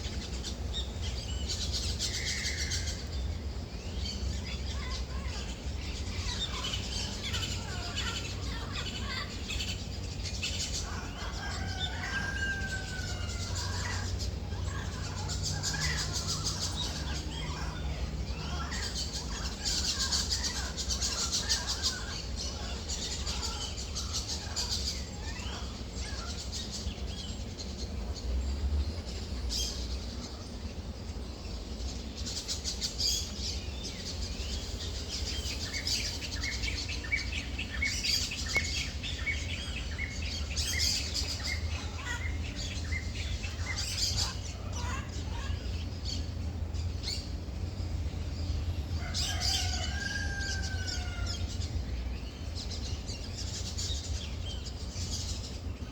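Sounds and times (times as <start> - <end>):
birds chirping: 0.0 - 55.9
low curved bird calls: 0.0 - 55.9.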